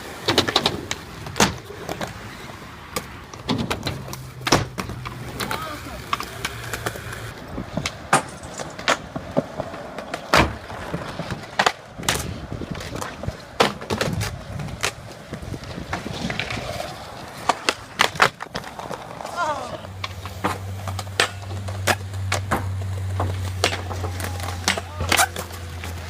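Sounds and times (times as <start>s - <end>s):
skate wheels rolling on pavement: 0.0s - 26.0s.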